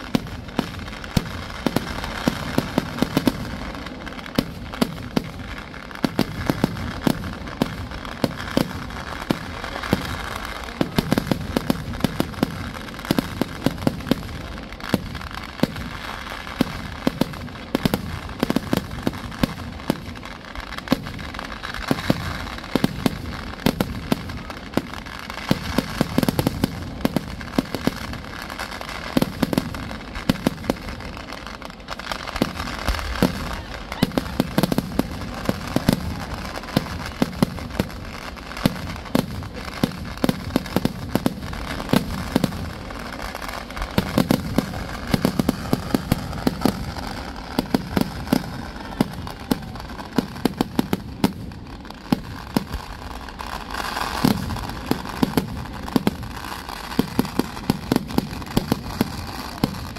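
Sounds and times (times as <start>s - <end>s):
steady crackling din: 0.0s - 59.9s.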